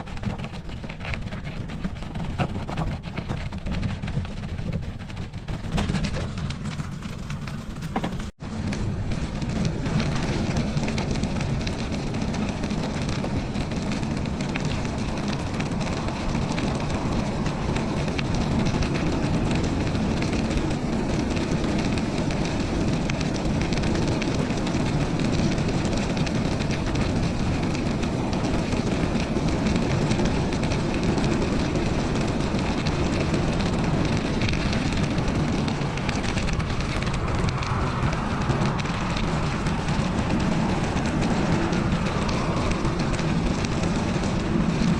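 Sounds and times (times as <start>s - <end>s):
bicycle tyres on snow: 0.0s - 44.9s
wind on microphone: 0.0s - 44.9s.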